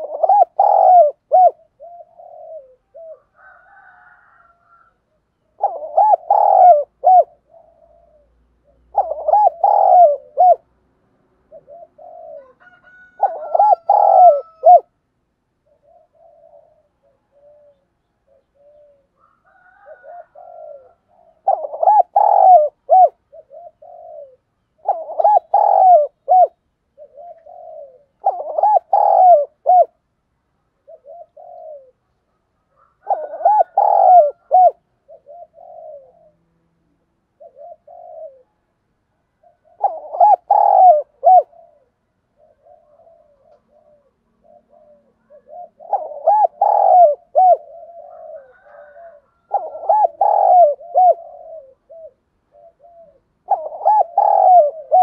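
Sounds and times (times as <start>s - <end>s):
dove cooing: 0.0s - 10.8s, 11.4s - 15.0s, 15.6s - 30.0s, 30.7s - 38.7s, 39.3s - 55.0s.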